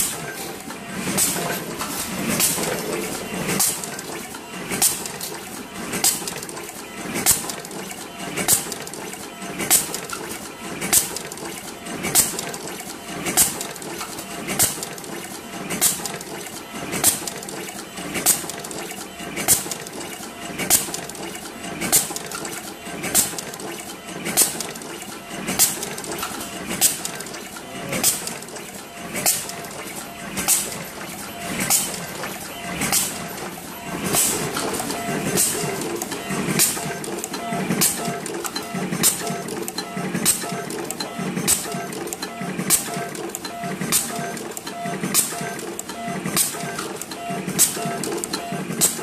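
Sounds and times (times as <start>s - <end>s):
machine running noise: 0.0s - 49.0s.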